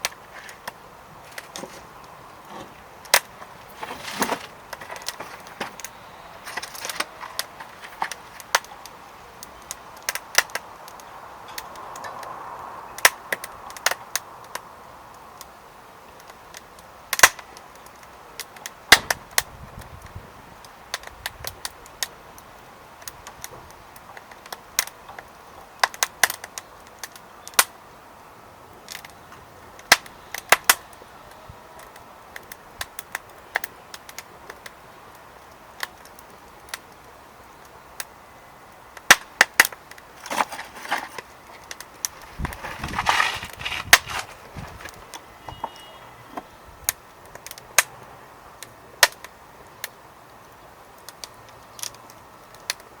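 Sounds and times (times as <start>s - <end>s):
firewood crackling and popping: 0.0s - 53.0s.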